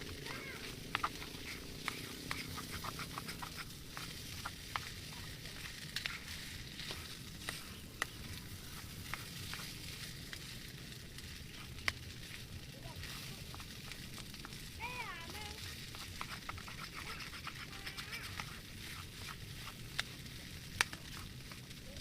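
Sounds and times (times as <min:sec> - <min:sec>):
food sizzling in a pan: 0:00.0 - 0:22.0
pops and crackles: 0:00.0 - 0:22.0.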